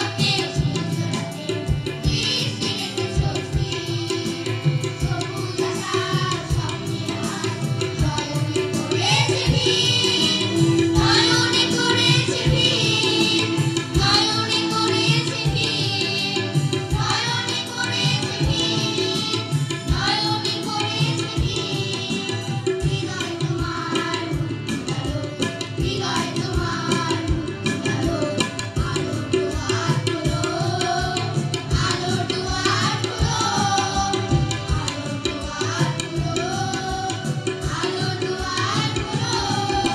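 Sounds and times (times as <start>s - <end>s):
children's choir singing: 0.0s - 39.9s
tabla beat: 0.0s - 39.9s.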